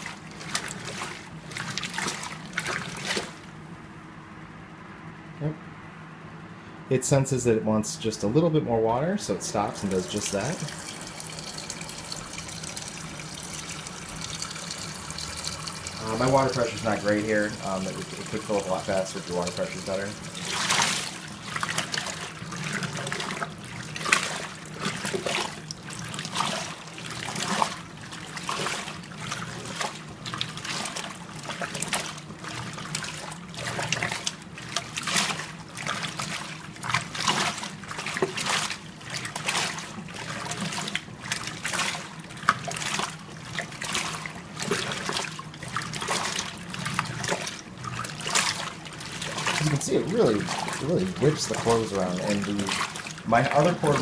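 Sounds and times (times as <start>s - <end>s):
washing machine agitating: 0.0s - 4.4s, 7.0s - 54.0s
low motor hum: 0.0s - 54.0s.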